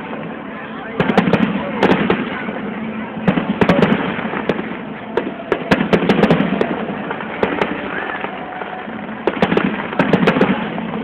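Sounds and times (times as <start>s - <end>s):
fireworks bangs: 0.9s - 11.0s.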